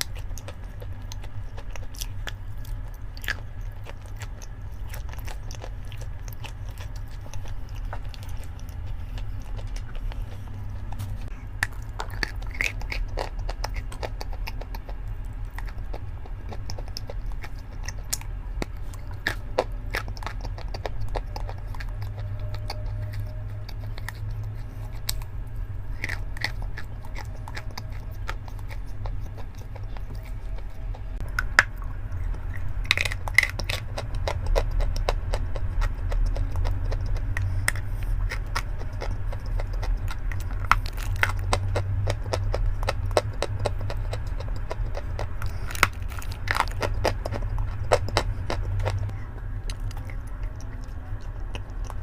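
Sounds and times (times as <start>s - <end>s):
chewing and crunching chalk: 0.0s - 52.0s
steady low rumble: 0.0s - 52.0s.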